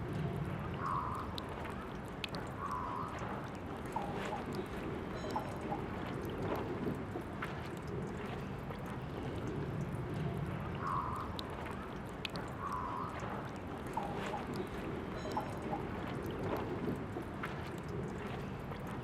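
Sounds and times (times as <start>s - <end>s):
water trickling from fountain tap: 0.1s - 19.0s.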